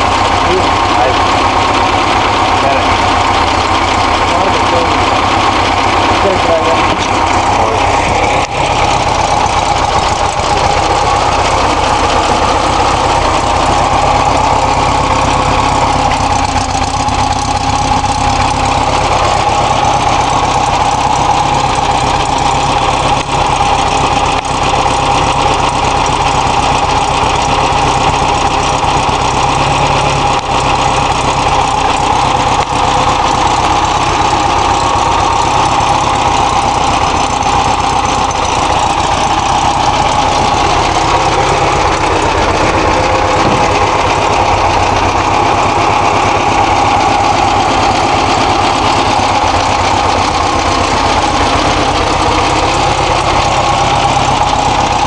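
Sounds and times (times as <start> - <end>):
van engine idling: 0.0 - 55.0.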